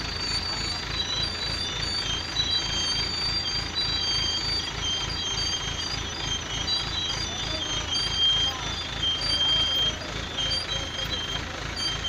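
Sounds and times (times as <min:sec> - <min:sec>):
electronic warning beeper: 0:00.0 - 0:12.0
heavy vehicle engine throbbing: 0:00.0 - 0:12.0.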